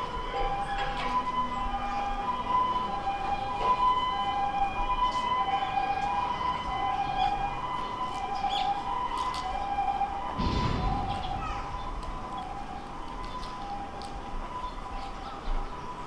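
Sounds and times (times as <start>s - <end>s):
two-tone ambulance siren: 0.0s - 16.0s.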